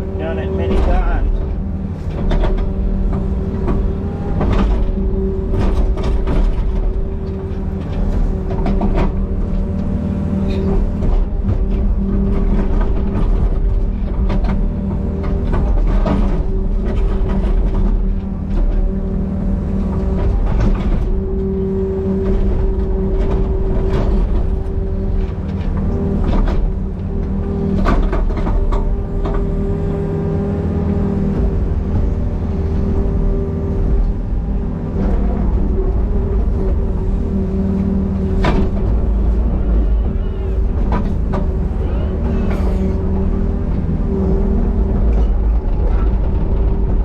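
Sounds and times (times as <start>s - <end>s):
excavator diesel engine under load: 0.0s - 47.0s.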